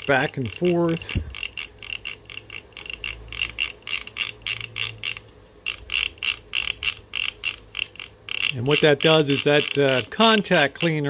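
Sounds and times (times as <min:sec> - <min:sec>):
rotary knobs clicking: 0:00.0 - 0:11.0.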